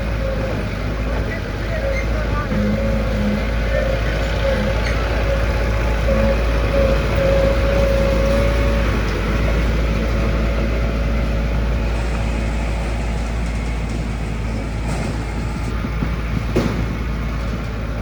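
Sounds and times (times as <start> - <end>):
steady whine: 0.0 - 17.8
construction machinery rumbling: 0.0 - 18.0.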